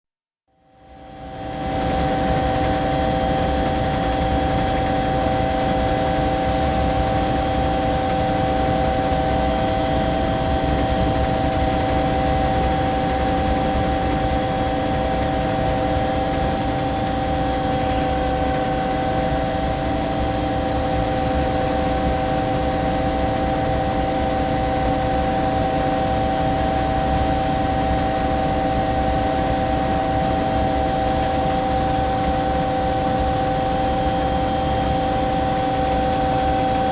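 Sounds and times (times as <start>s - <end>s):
helicopter rotor and turbine drone: 0.5s - 36.9s.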